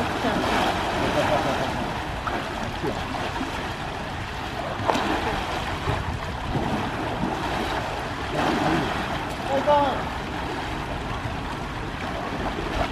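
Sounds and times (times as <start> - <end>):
water splashing and sloshing: 0.0 - 12.9.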